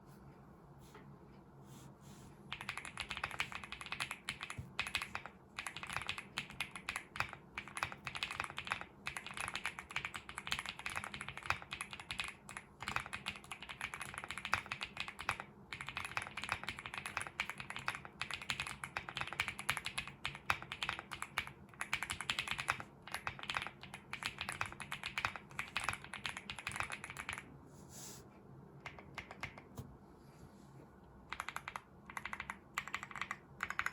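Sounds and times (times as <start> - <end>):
fast mechanical keyboard typing: 2.5 - 27.5, 28.8 - 29.7, 31.3 - 33.9.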